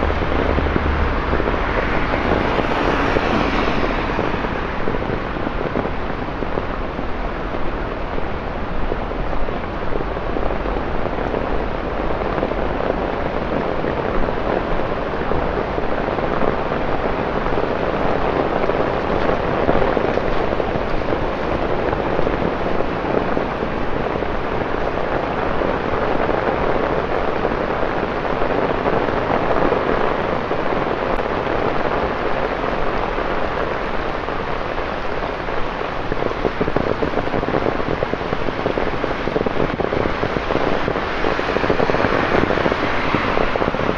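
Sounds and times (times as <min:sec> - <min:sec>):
heavy rain on pavement: 0:00.0 - 0:43.9.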